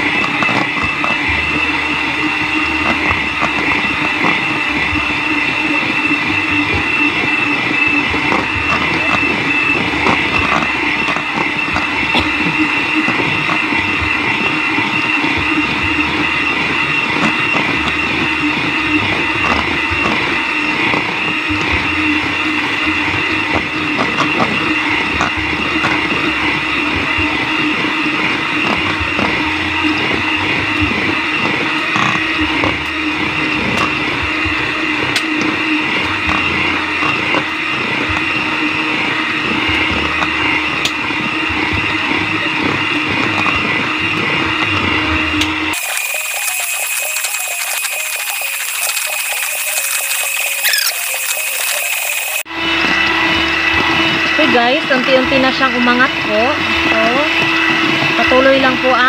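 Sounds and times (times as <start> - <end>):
electric hand mixer whipping cream: 0.0 - 59.0.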